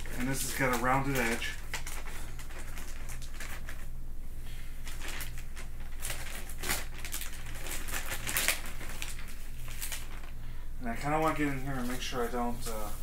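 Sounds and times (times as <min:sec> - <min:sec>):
plastic wrap crinkling: 0:00.0 - 0:04.0, 0:04.8 - 0:13.0.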